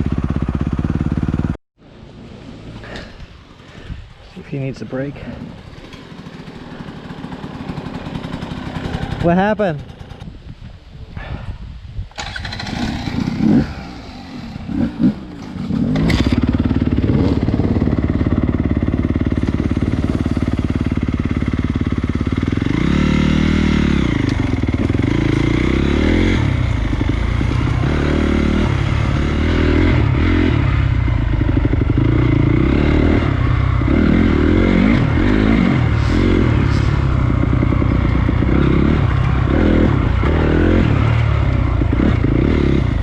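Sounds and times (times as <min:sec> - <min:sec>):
dirt bike engine revving: 0:05.1 - 0:10.4, 0:12.2 - 0:43.0.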